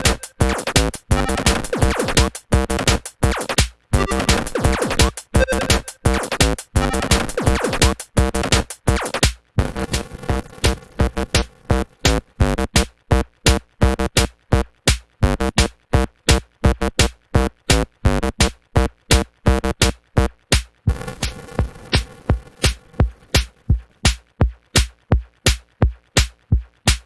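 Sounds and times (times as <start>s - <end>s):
electronic music with drum machine: 0.0s - 14.3s, 15.2s - 27.0s.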